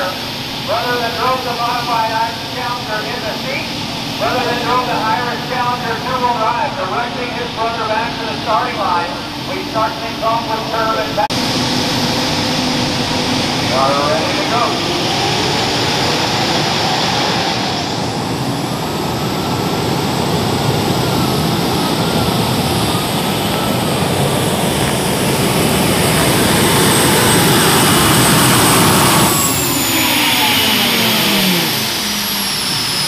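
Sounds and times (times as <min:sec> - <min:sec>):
high whine: 0:00.0 - 0:33.0
pulling tractor engine at full power: 0:00.0 - 0:33.0.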